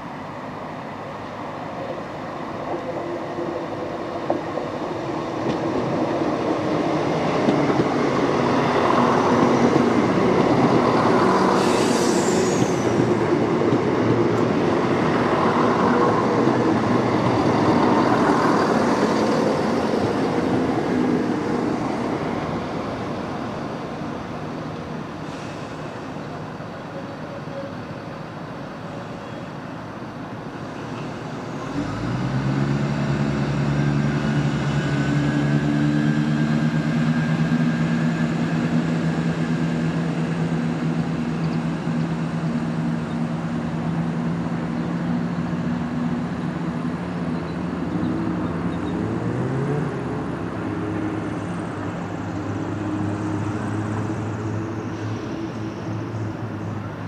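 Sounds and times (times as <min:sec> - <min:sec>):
diesel train engines under power: 0:00.0 - 0:57.0.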